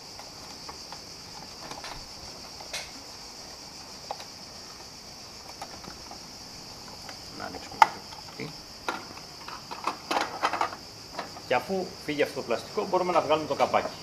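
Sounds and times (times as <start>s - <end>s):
steady high-pitched hiss: 0.0s - 14.0s.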